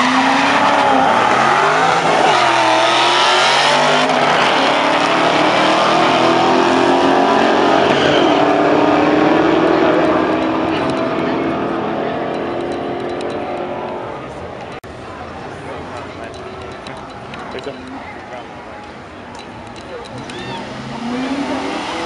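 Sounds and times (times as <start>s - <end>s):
racing car engines at full throttle: 0.0s - 22.0s.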